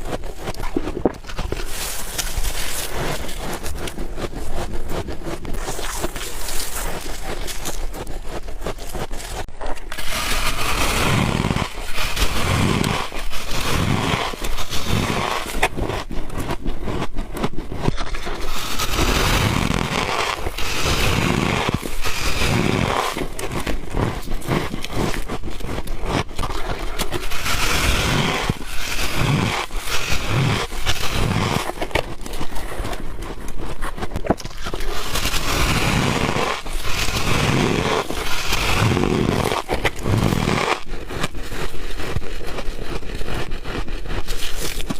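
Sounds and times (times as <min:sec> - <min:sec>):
chewing ice crunching: 0:00.0 - 0:44.9.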